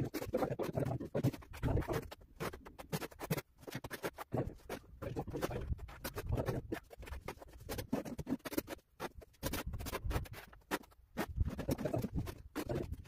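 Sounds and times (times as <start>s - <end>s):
steel trowel scraping adhesive: 0.0s - 13.0s.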